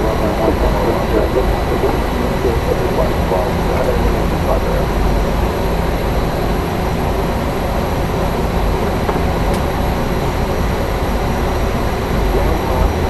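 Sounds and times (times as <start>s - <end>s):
turboprop engine running: 0.0s - 13.0s.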